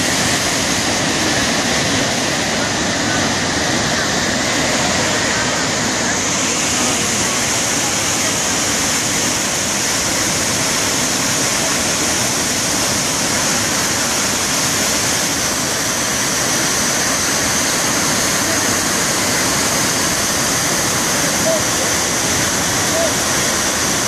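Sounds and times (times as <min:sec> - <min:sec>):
waterfall roaring over rock: 0:00.0 - 0:24.0.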